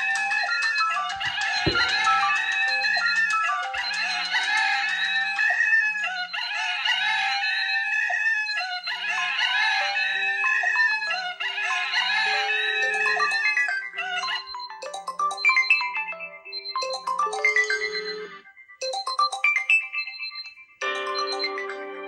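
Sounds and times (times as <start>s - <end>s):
phone ringtone melody: 0.0s - 22.0s.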